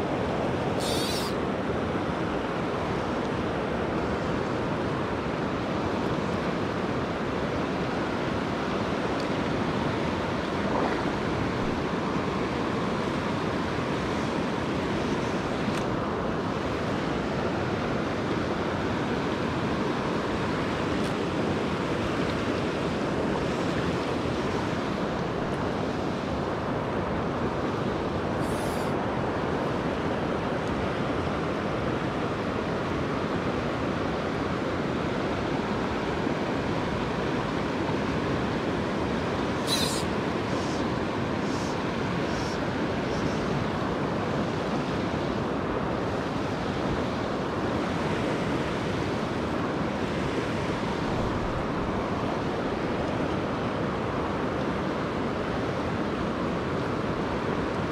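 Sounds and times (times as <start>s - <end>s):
river rushing over riffles: 0.0s - 57.9s.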